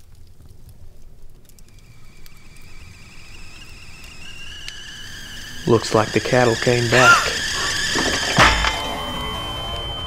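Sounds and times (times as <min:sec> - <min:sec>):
high whistling tone: 0:01.7 - 0:10.0.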